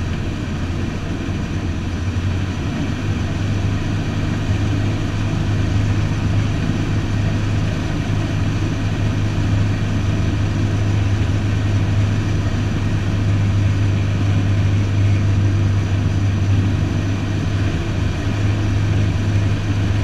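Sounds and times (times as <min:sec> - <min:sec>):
light aircraft engine drone in cabin: 0:00.0 - 0:20.0.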